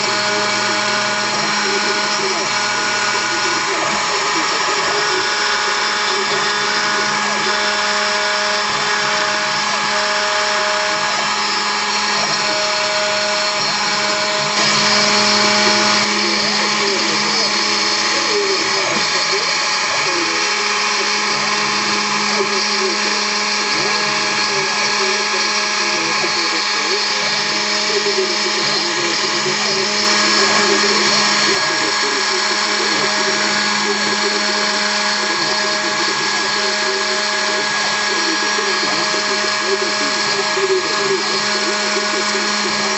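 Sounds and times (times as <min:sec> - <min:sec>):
axis motors tone: 0:00.0 - 0:42.9
router spindle whining: 0:00.0 - 0:42.9.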